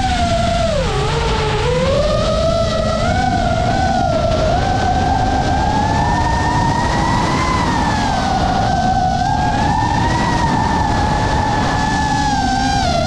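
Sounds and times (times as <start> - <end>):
drone motors whining: 0.0 - 13.0
steady rushing noise: 0.0 - 13.0.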